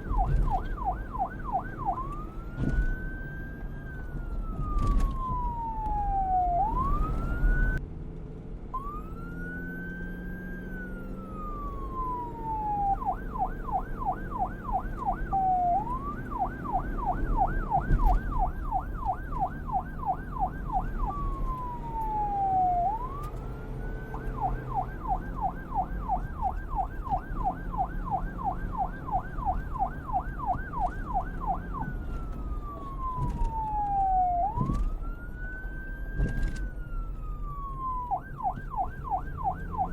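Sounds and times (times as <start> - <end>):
police siren wailing and yelping: 0.0 - 7.8, 8.8 - 39.9.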